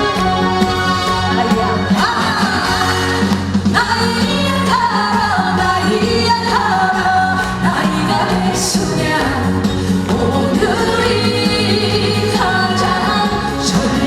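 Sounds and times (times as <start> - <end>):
band accompaniment: 0.0 - 14.0
woman singing: 0.0 - 14.0.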